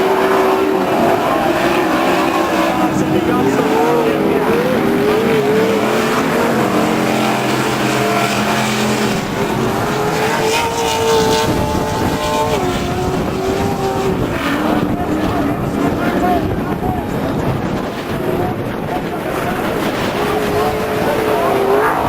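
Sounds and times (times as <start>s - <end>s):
truck engines revving high: 0.0s - 22.0s.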